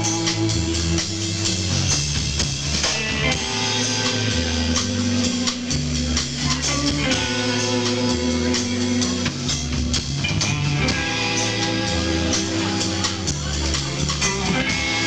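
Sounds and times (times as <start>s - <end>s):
bass line: 0.0s - 15.0s
drum kit beat: 0.0s - 15.0s
electric guitar: 0.0s - 15.0s.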